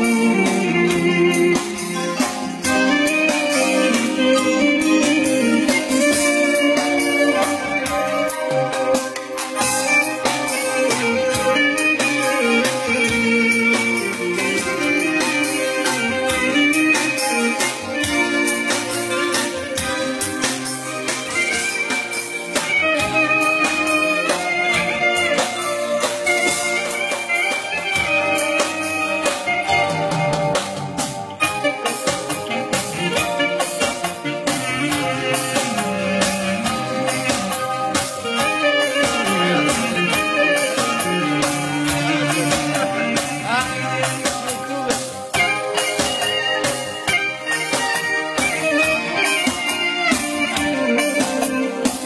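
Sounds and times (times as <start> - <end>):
amplified backing music: 0.0 - 52.0
clarinet melody: 0.0 - 52.0
steady drum beat: 0.0 - 52.0.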